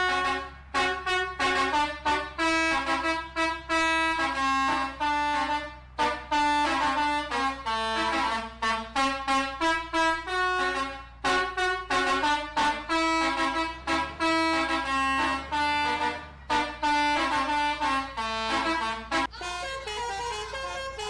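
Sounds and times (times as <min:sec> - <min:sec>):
multi-tone air horns tune: 0:00.0 - 0:21.0.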